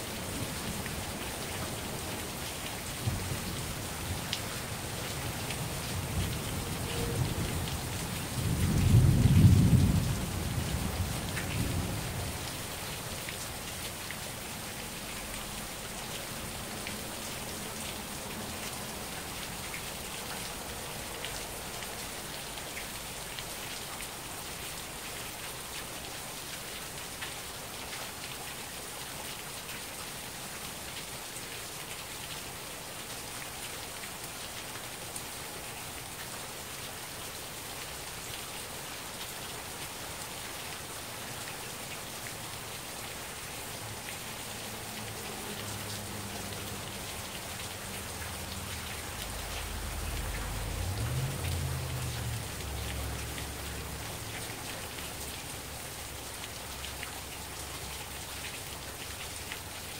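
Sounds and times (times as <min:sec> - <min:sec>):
heavy rain: 0:00.0 - 0:59.9
raindrops pattering: 0:00.0 - 0:59.9.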